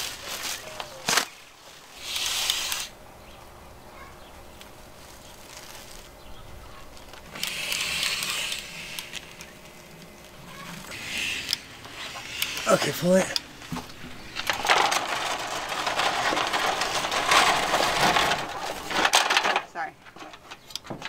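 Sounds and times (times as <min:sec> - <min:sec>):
plastic film rustling: 0:00.0 - 0:02.9, 0:04.5 - 0:12.7, 0:13.8 - 0:19.7.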